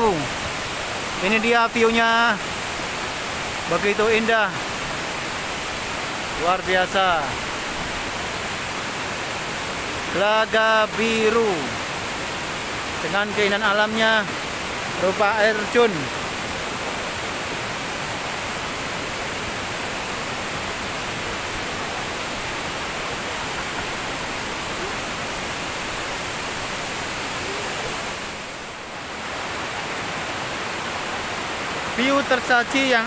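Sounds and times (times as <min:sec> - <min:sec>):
stream running over rocks: 0:00.0 - 0:33.0
waterfall: 0:00.0 - 0:33.0.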